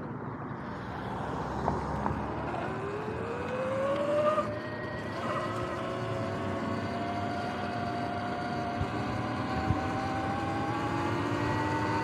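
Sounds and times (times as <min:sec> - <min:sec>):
electric motor and chain whining: 0:02.1 - 0:12.0.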